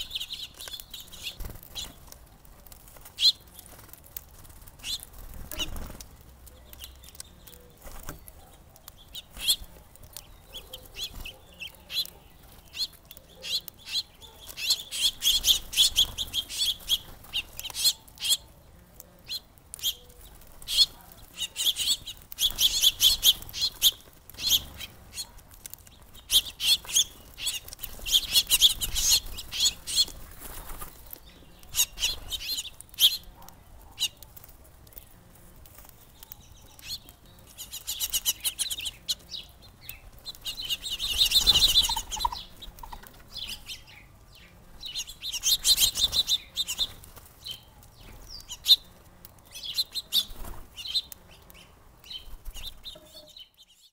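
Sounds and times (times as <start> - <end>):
sparrows and finches chirping: 0.0 - 53.9.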